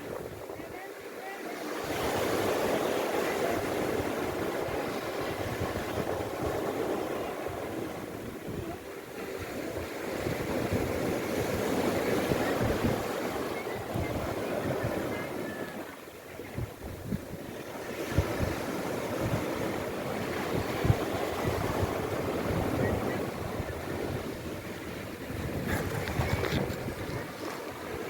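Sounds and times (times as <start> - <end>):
sea waves washing onto shore: 0.0 - 28.0
wind buffeting microphone: 1.8 - 28.0.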